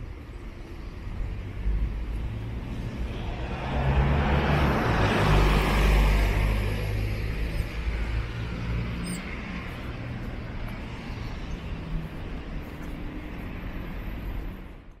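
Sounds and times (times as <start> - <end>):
distant road traffic: 0.0 - 15.0.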